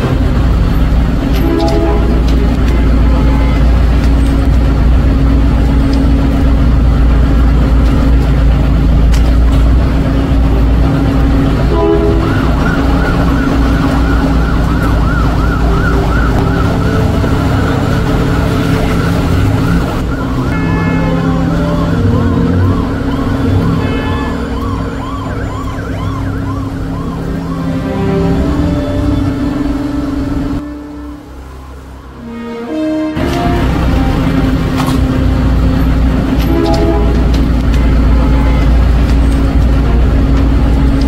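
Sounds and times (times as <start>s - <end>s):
emergency vehicle siren wailing: 0.0s - 41.0s
heavy vehicle engine rumbling: 0.0s - 41.0s.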